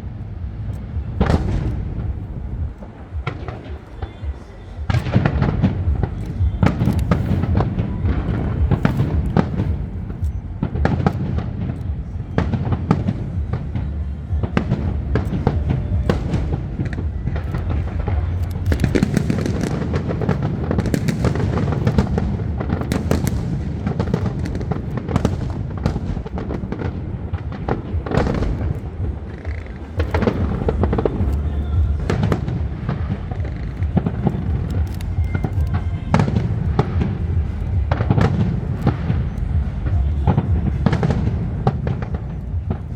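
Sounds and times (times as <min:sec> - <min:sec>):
deep rumble of booms: 0:00.0 - 0:42.9
fireworks bursting and crackling: 0:00.0 - 0:42.9.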